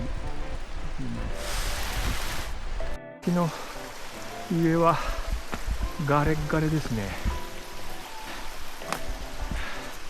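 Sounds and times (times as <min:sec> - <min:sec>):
stream water rushing: 0:00.2 - 0:10.0.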